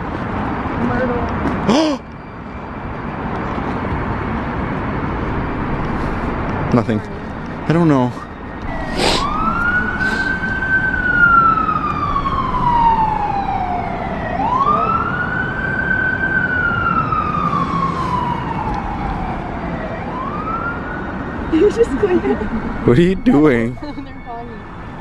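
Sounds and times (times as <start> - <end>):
traffic hum: 0.0 - 25.0
emergency siren wailing: 0.8 - 25.0.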